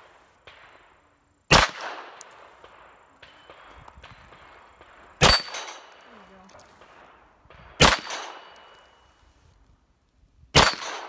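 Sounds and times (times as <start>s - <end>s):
pistol shots: 0.0s - 9.0s, 10.5s - 11.0s.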